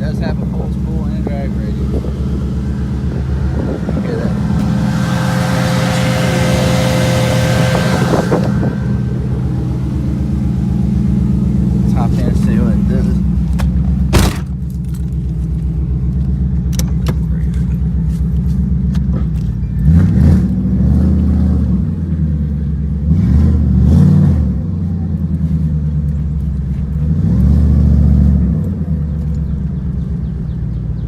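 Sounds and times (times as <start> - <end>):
car engine revving: 0.0 - 30.6.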